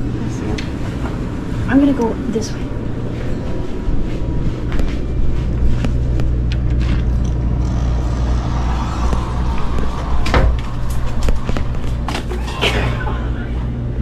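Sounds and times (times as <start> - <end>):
low hum of boat machinery: 0.0 - 14.0.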